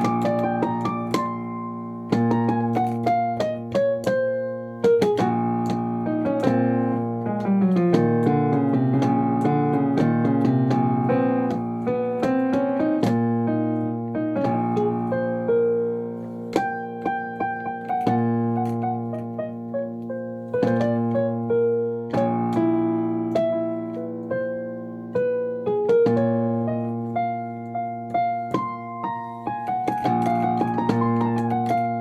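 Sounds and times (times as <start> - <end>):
solo piano music: 0.0 - 32.0.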